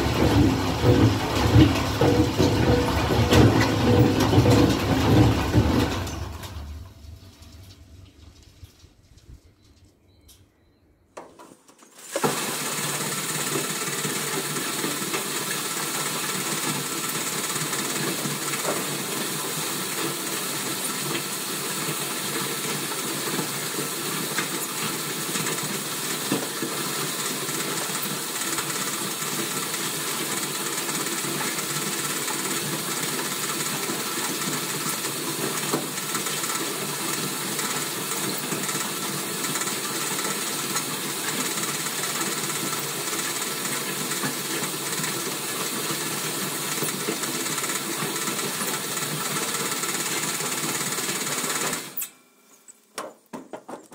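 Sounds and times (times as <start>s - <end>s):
wood chips rushing on conveyor: 0.0s - 8.6s, 11.9s - 52.1s.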